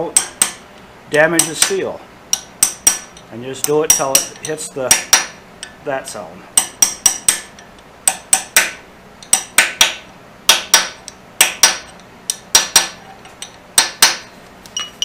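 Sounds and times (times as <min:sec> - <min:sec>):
hammer tapping steel: 0:00.0 - 0:00.6, 0:01.3 - 0:05.8, 0:06.6 - 0:15.0.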